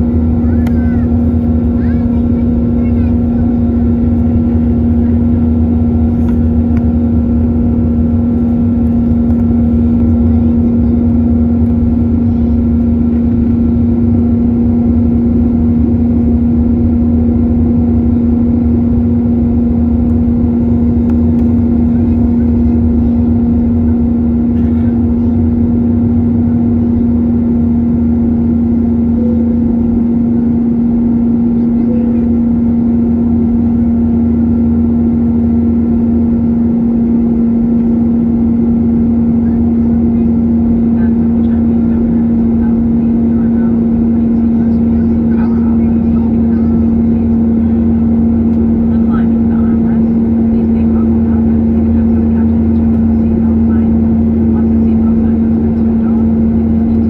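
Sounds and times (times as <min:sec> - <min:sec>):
jet airliner engine drone: 0:00.0 - 0:57.0.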